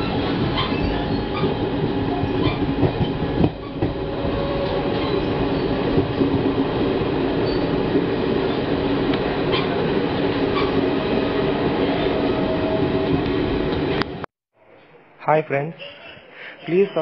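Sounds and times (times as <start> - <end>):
train wheels rumbling on rails: 0.0 - 14.3.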